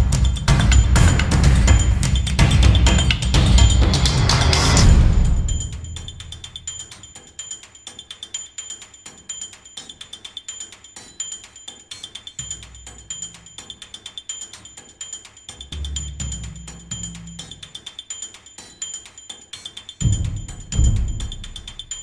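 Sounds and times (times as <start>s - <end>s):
rapid metallic ticking: 0.0s - 22.0s.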